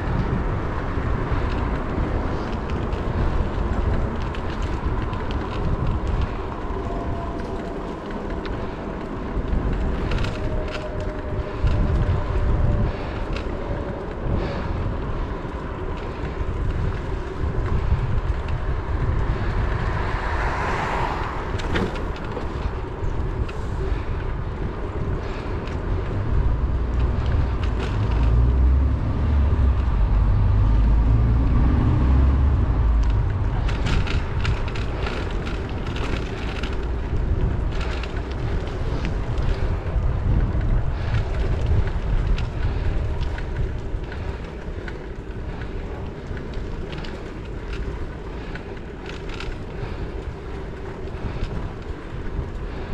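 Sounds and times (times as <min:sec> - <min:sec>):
street and road noise: 0:00.0 - 0:52.9
wind buffeting microphone: 0:00.0 - 0:52.9.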